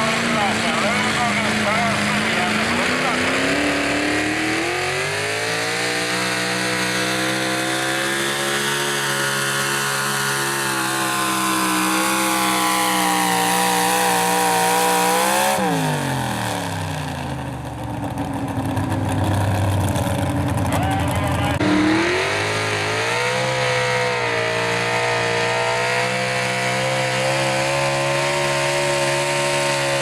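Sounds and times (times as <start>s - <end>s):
truck engine revving under load: 0.0s - 30.0s.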